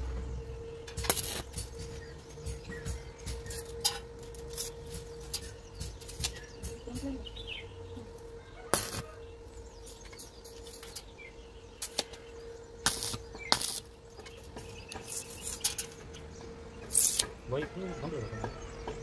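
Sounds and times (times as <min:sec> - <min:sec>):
steady hum: 0:00.0 - 0:17.5.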